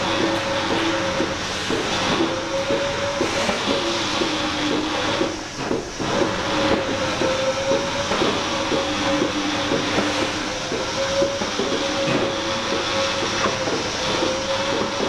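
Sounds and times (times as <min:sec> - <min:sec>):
machinery humming tone: 0:00.0 - 0:15.0.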